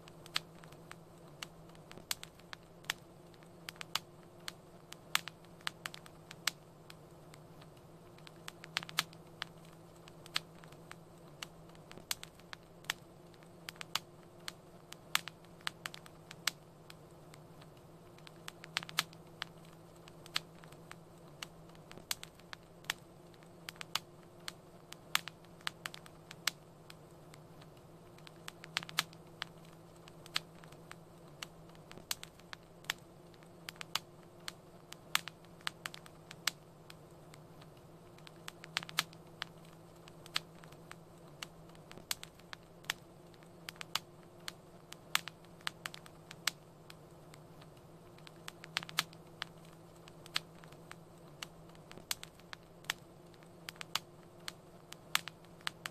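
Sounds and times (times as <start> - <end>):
faint low hum: 0.0 - 55.9
wood fire crackling: 0.0 - 55.9.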